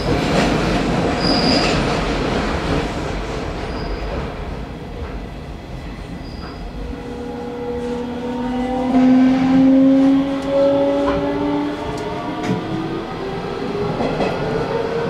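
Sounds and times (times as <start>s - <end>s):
running train rumble: 0.0s - 15.0s.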